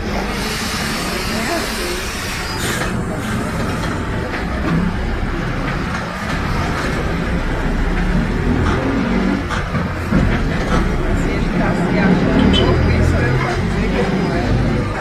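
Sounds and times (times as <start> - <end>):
bus body noise: 0.0 - 15.0
bus engine droning inside cabin: 0.0 - 15.0.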